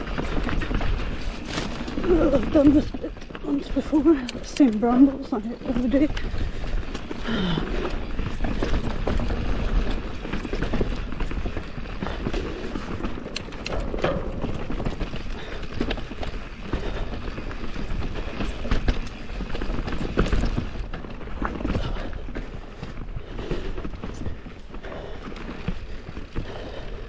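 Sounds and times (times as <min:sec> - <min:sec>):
bike knocking and rattling: 0:00.0 - 0:27.0
bike tyres crunching over dirt: 0:00.0 - 0:27.0
low wind rumble: 0:00.0 - 0:27.0.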